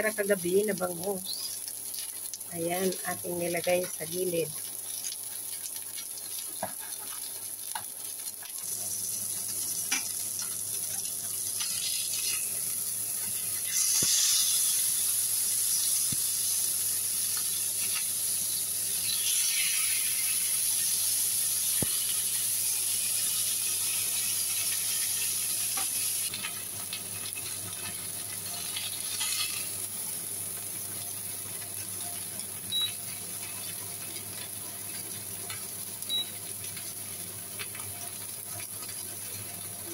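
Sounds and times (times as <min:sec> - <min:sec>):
fish sizzling in oil: 0:00.0 - 0:39.9.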